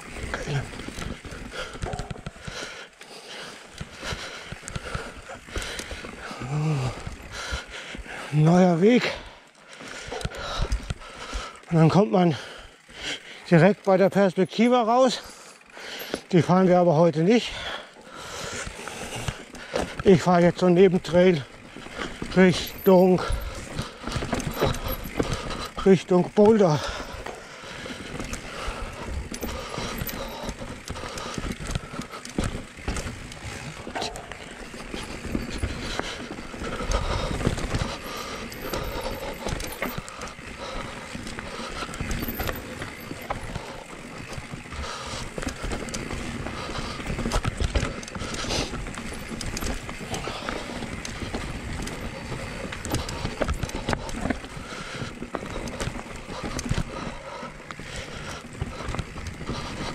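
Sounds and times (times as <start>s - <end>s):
bike knocking and rattling: 0.0s - 59.9s
bike tyres rumbling over dirt: 0.0s - 59.9s.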